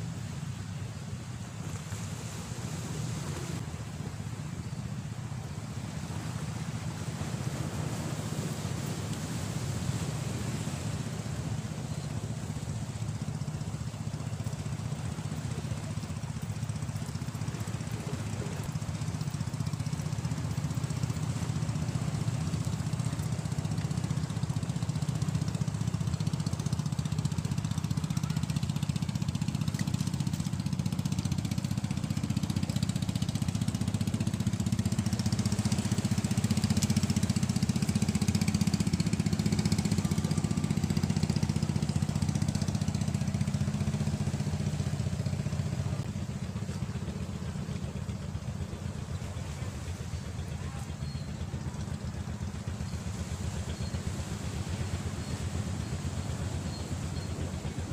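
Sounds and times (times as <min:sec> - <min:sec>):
boat engine droning: 0:00.0 - 0:57.9.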